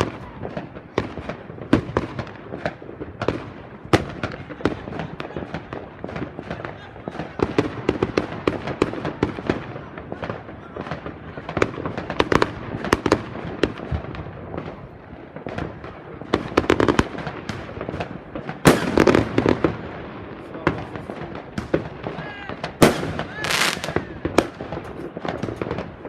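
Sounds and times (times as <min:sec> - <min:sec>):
fireworks and firecrackers crackling: 0:00.0 - 0:26.0.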